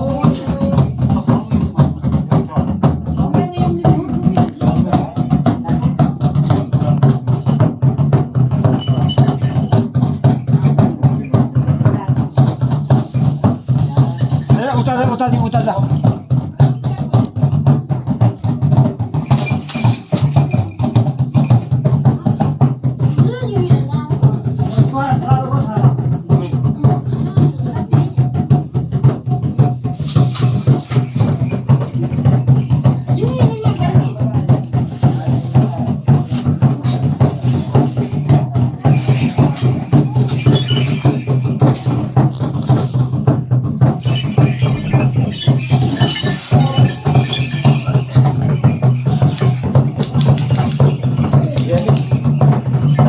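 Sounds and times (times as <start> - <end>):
fast percussion beating: 0.0 - 53.0.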